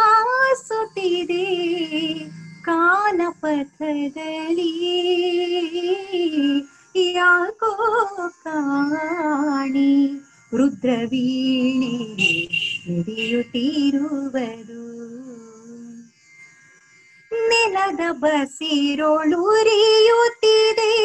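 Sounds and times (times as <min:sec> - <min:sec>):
woman singing: 0:00.0 - 0:16.0, 0:17.3 - 0:21.0.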